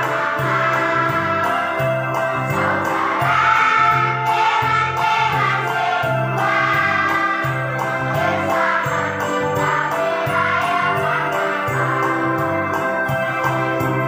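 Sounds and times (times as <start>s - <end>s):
children's choir singing a hymn: 0.0s - 14.0s
instrumental accompaniment: 0.0s - 14.0s.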